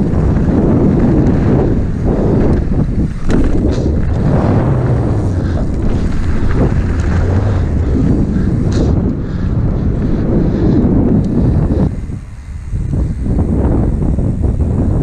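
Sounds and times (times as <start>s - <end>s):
bike rattling over bumps: 0.0s - 15.0s
mountain bike rumbling on dirt trail: 0.0s - 15.0s
wind buffeting microphone: 0.0s - 15.0s.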